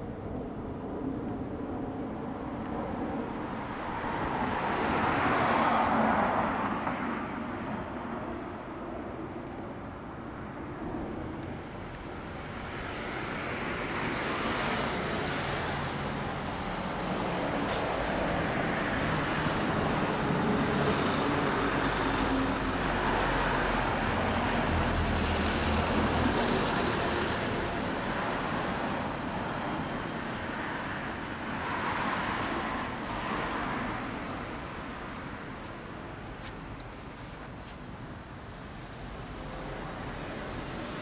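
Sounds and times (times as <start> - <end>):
road traffic: 0.0 - 41.0.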